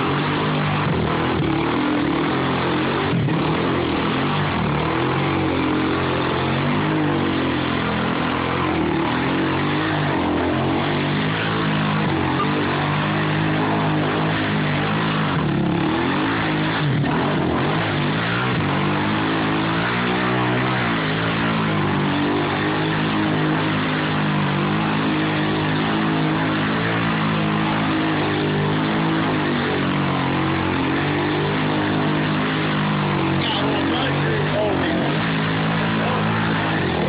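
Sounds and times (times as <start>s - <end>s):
quad engine revving: 0.0s - 37.0s.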